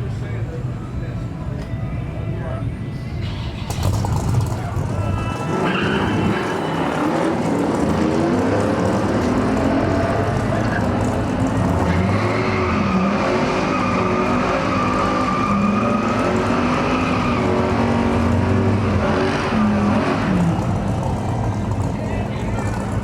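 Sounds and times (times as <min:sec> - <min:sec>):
car engines at full throttle: 0:03.2 - 0:23.0.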